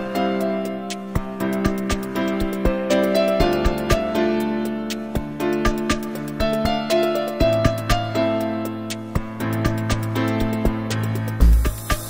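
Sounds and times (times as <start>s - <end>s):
background music with light clicks: 0.0s - 12.0s.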